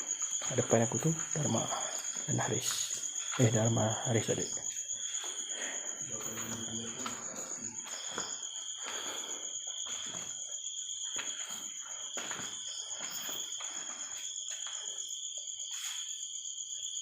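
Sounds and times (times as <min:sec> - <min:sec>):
footsteps: 0:00.0 - 0:15.0
crickets trilling: 0:00.0 - 0:17.0.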